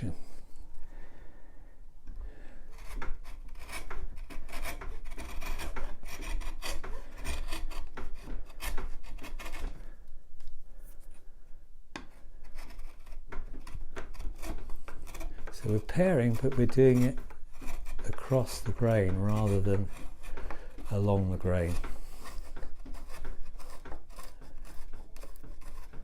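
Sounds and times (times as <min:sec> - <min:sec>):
chisel paring wood: 0:02.7 - 0:10.0, 0:11.9 - 0:26.0.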